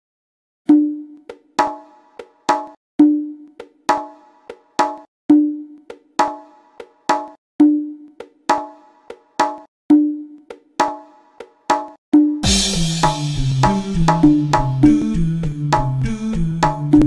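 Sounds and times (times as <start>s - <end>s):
pitched percussion music: 0.7s - 17.0s.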